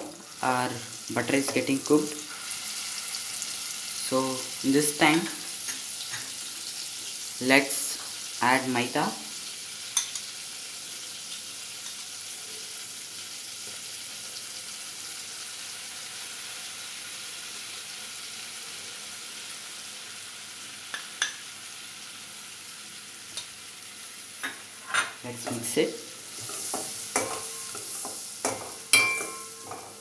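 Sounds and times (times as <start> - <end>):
butter sizzling in a pan: 0.0 - 30.0.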